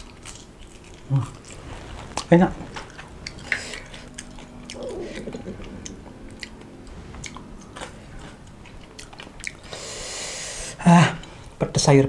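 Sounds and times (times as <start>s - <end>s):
close-up chewing: 0.0s - 9.8s.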